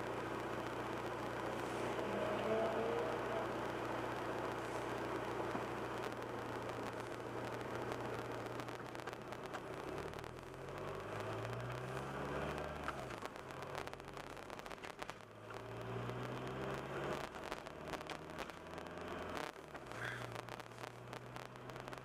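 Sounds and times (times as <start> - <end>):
car engine accelerating: 0.0 - 22.0
tyre and road noise: 0.0 - 22.0.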